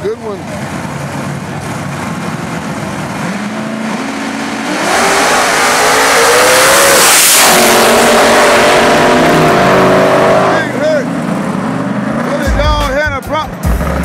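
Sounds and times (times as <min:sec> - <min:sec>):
drag car engines revving: 0:00.0 - 0:14.0.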